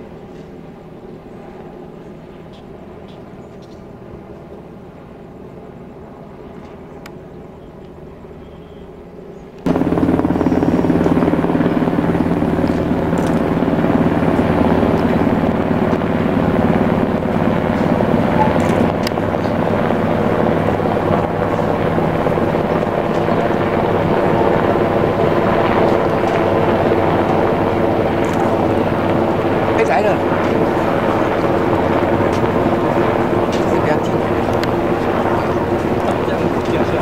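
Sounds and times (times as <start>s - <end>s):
helicopter flying overhead: 0.0s - 37.0s.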